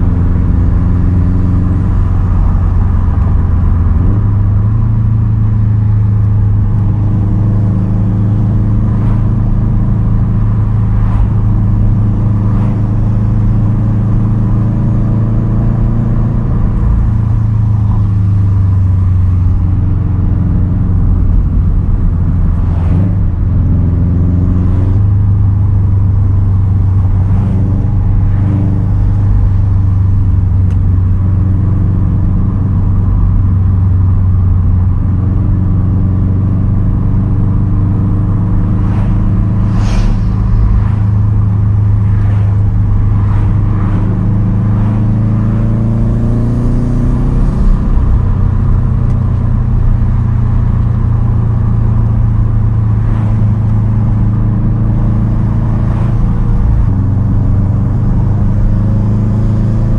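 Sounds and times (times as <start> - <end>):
car engine through exhaust: 0.0 - 59.9.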